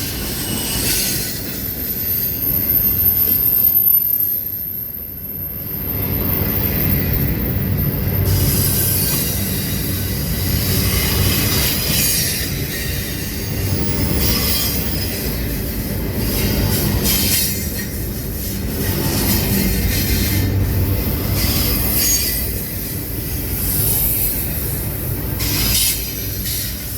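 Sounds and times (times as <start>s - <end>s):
metallic wheel screech and clatter: 0.0s - 26.9s
train rumbling past: 0.0s - 26.9s.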